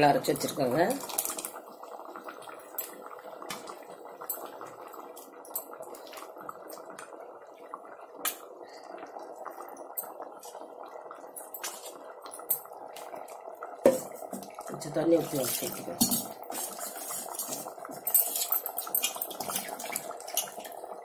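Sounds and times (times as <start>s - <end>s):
thick gravy bubbling: 0.0s - 21.0s.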